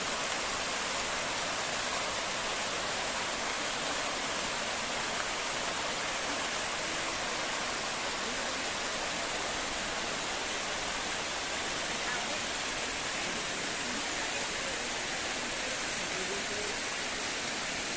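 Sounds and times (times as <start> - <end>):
waterfall roar: 0.0 - 17.9.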